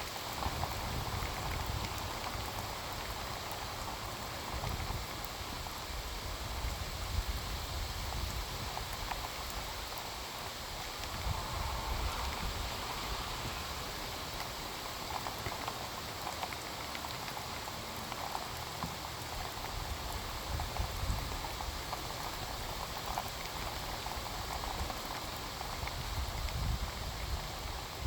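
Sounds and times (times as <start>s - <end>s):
heavy rain: 0.0s - 28.0s
raindrops ticking on a surface: 0.0s - 28.0s.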